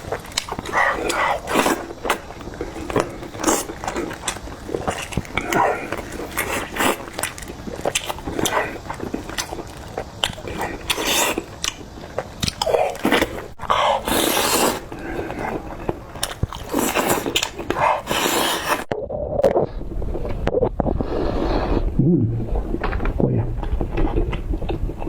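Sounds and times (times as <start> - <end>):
person chewing food: 0.0 - 21.8, 23.6 - 25.0.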